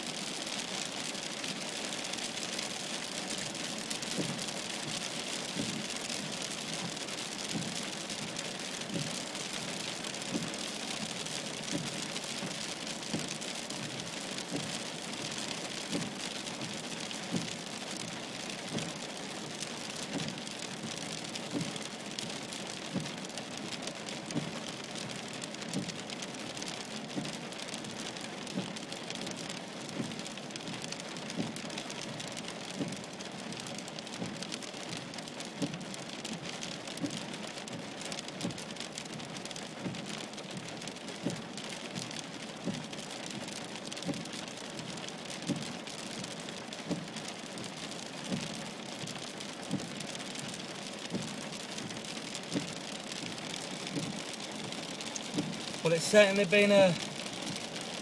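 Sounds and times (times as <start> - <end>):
rain and hail on a car: 0.0 - 58.0.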